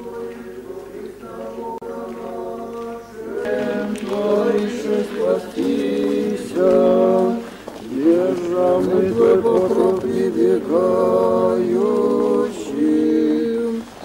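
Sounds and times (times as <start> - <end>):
voices singing without instruments: 0.0 - 14.0.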